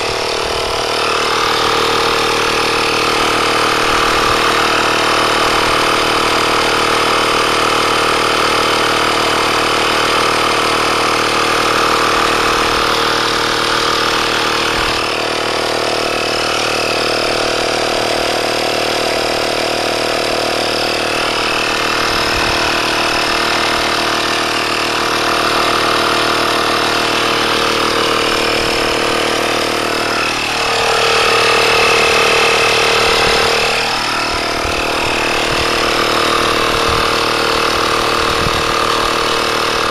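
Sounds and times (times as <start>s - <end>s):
small electric air compressor running: 0.0s - 39.9s.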